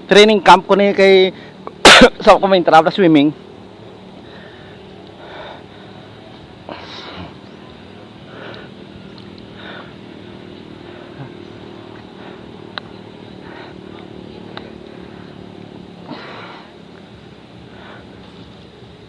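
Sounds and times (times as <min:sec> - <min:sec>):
motor humming: 0:03.0 - 0:19.0.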